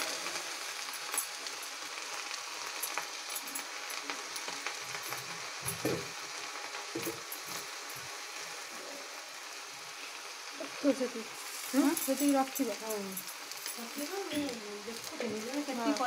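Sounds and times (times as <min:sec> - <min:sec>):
greens sizzling in hot oil: 0:00.0 - 0:16.0.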